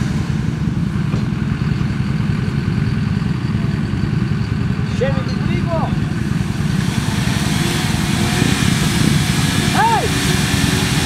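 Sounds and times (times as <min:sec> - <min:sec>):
truck engine running steadily: 0:00.0 - 0:11.0.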